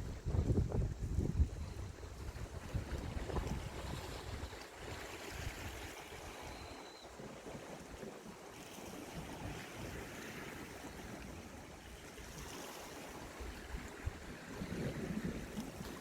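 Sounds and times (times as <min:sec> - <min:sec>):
wind buffeting microphone: 0:00.0 - 0:06.7, 0:08.9 - 0:16.0
sea waves washing ashore: 0:00.0 - 0:16.0.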